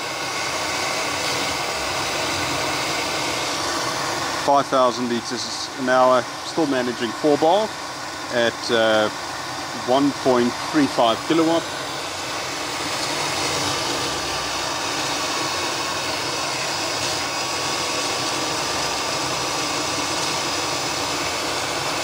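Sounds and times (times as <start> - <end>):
faint high whine: 0.0 - 22.0
pump running with rushing water: 0.0 - 22.0.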